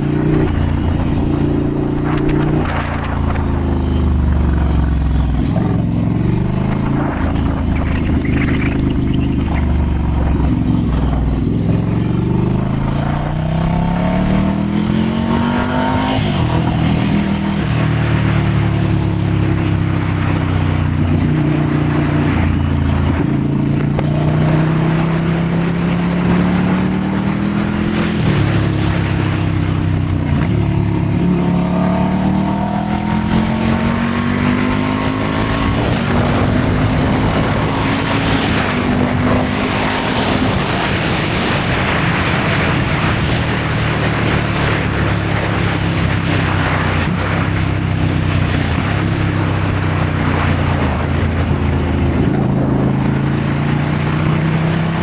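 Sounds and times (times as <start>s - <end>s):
motorcycle engine shifting gears: 0.0s - 55.0s.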